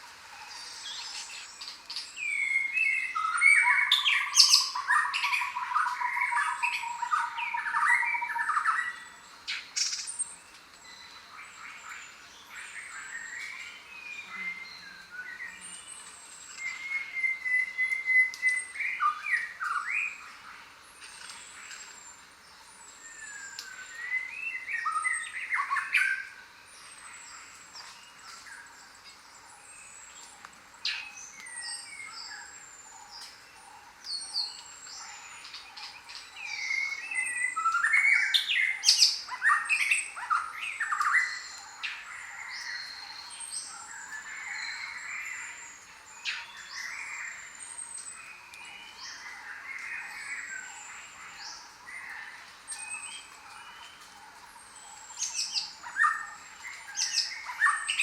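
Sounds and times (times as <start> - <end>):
faint high hiss: 0.0 - 58.0
tropical birds chirping and squawking: 0.0 - 58.0.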